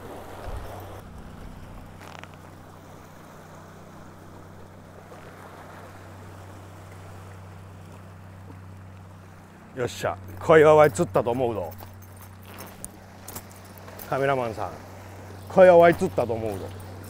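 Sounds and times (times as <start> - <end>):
low engine hum: 0.0 - 17.0
water noise: 0.0 - 17.0
wind: 0.0 - 17.0.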